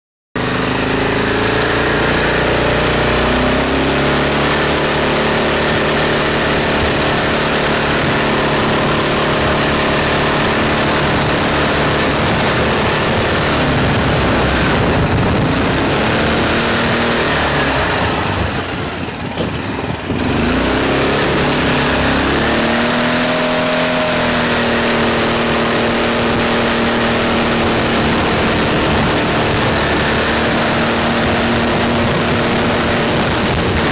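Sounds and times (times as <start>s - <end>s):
buggy engine revving: 0.4s - 33.9s.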